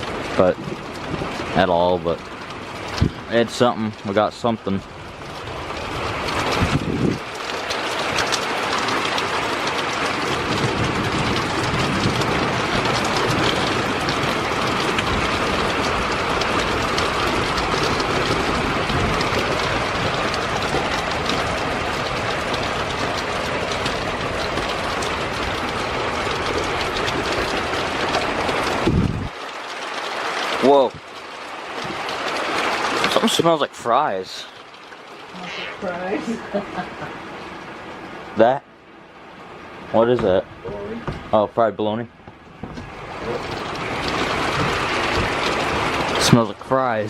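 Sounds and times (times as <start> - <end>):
heavy rain downpour: 0.0 - 47.0.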